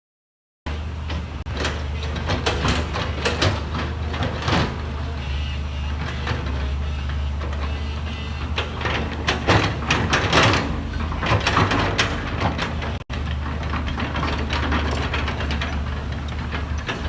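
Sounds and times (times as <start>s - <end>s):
engine humming: 0.7s - 17.0s
metallic clanks and knocks: 1.4s - 5.0s, 6.0s - 17.0s.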